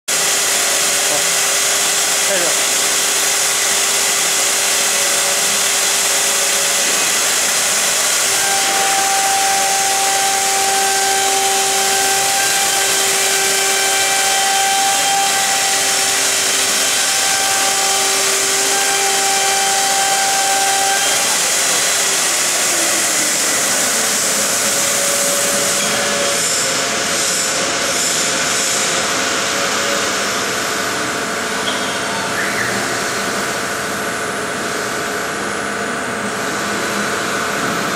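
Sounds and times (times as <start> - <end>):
cnc router spindle cutting: 0.1 - 37.9.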